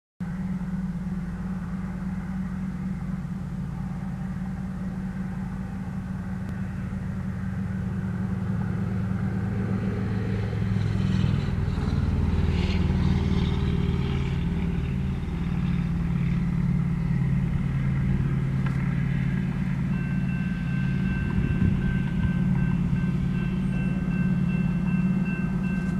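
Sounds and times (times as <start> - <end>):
diesel locomotives droning: 0.2 - 25.9.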